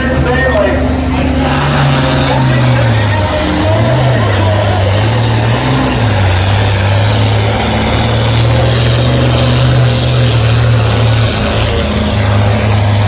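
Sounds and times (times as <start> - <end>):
tractor engine roaring: 0.0 - 13.0.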